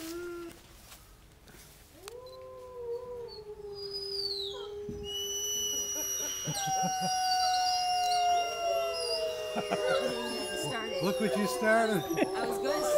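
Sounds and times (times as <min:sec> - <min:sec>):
higher wolf howl: 0:02.0 - 0:12.9
wolf howling: 0:02.0 - 0:12.9.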